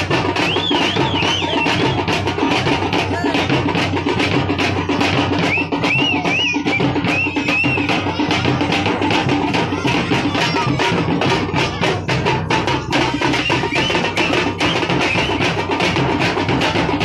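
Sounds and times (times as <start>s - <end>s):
frame drums beaten with sticks: 0.0s - 17.0s.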